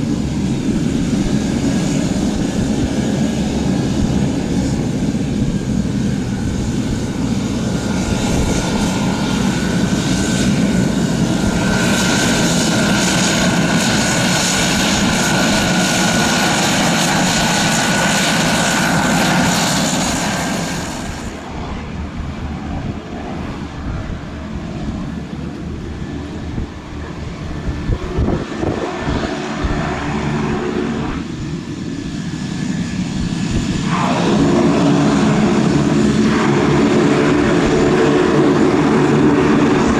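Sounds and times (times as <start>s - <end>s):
high turbine whine: 0.0s - 39.9s
propeller drone: 0.0s - 39.9s.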